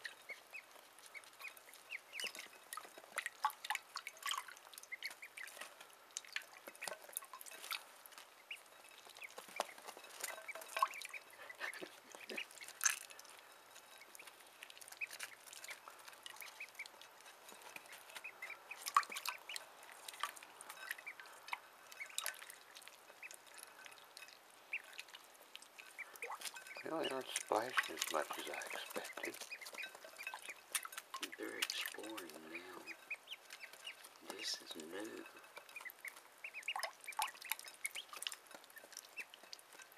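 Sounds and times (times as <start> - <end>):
ducklings peeping: 0.0 - 39.9
water splashes and drips: 0.0 - 39.9.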